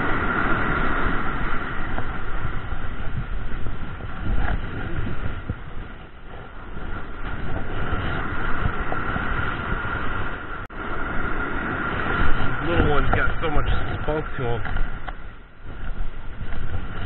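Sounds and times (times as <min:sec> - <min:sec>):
surf: 0:00.0 - 0:17.0
wind rumbling on microphone: 0:00.0 - 0:17.0.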